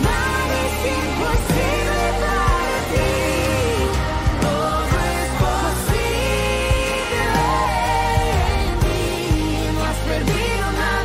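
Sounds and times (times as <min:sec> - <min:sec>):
song with melody over a beat: 0:00.0 - 0:11.0.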